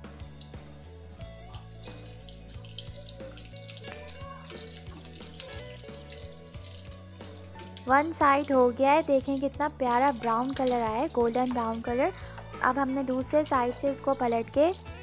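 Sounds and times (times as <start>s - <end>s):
background music with low notes: 0.0s - 15.0s
hot oil sizzling: 0.0s - 15.0s.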